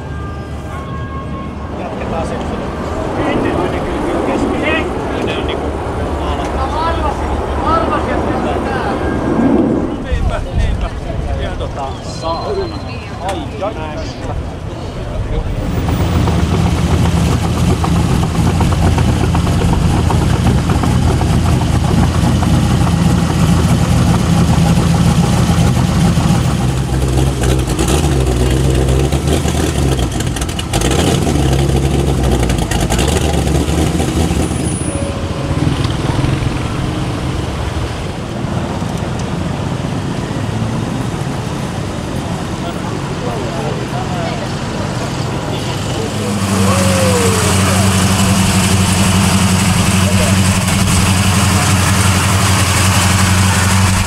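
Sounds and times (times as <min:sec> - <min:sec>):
cars rumbling past: 0:00.0 - 0:54.0.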